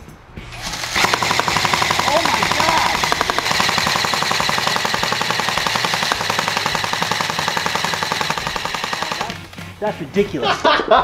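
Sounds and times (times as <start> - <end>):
airsoft gun full-auto rattle: 0.6 - 9.6.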